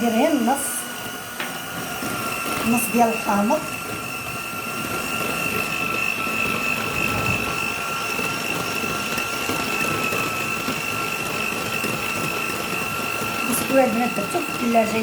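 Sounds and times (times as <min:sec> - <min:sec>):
electric mixer whining: 0:00.0 - 0:15.0.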